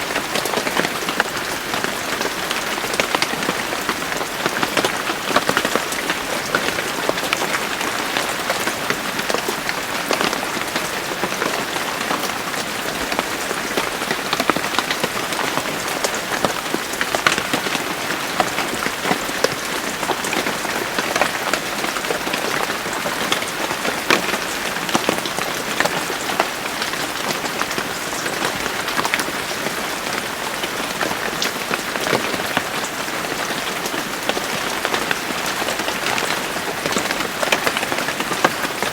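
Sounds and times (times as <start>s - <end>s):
rain pattering on hard surface: 0.0s - 38.9s.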